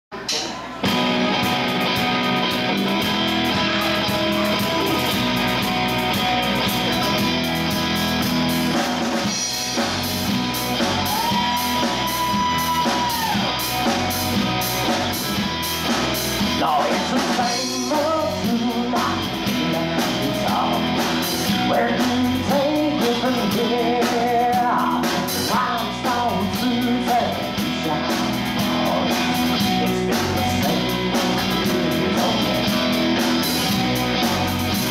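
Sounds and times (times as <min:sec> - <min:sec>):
drum kit: 0:00.1 - 0:34.9
electric bass: 0:00.8 - 0:34.9
electric guitar: 0:00.8 - 0:34.9.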